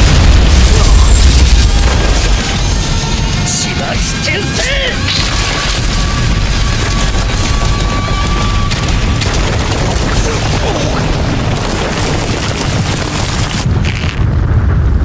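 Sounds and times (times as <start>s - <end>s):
explosion rumble: 0.0s - 3.5s, 5.2s - 15.0s.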